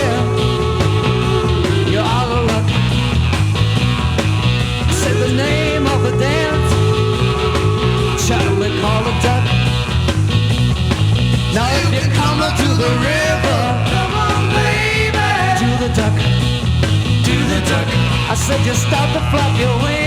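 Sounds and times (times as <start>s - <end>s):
garage rock band playing: 0.0s - 20.0s.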